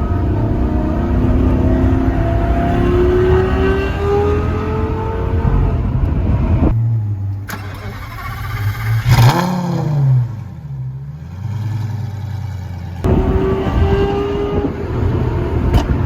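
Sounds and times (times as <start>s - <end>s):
sports car engine revving and idling: 0.0s - 7.5s, 8.6s - 16.0s.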